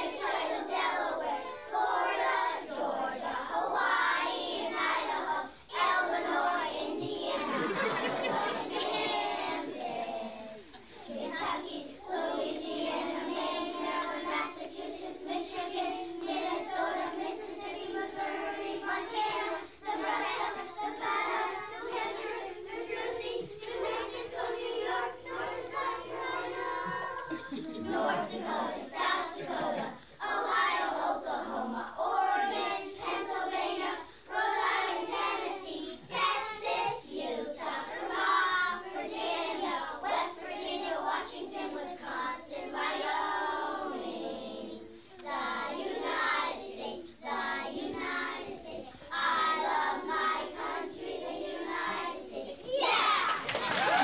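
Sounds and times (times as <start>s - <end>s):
young children singing: 0.0s - 54.0s.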